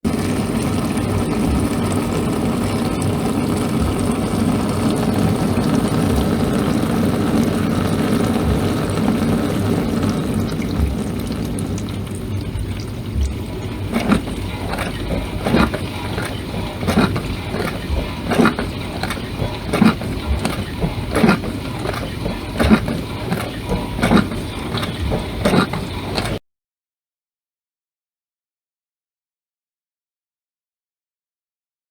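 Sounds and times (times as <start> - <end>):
rhythmic water splashes: 0.0 - 26.4
dishwasher spraying water: 0.1 - 26.4.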